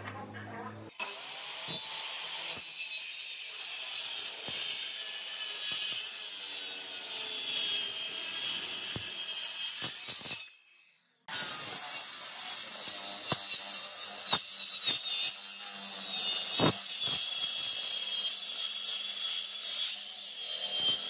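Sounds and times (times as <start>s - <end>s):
circular saw cutting wood: 0.9s - 21.0s.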